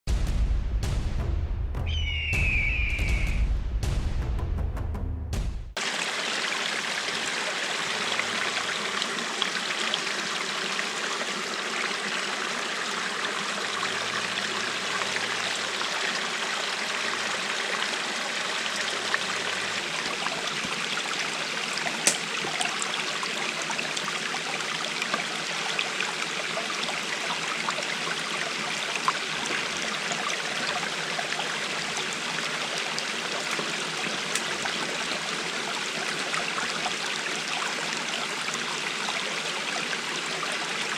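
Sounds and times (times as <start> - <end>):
water rushing: 5.8 - 40.9.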